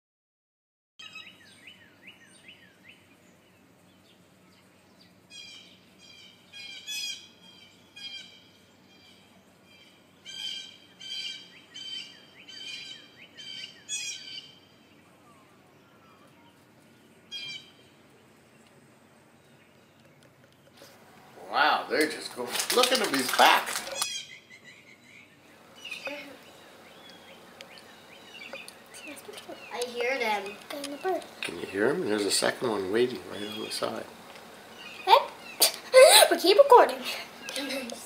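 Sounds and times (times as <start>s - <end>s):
bird calls: 1.0s - 38.0s.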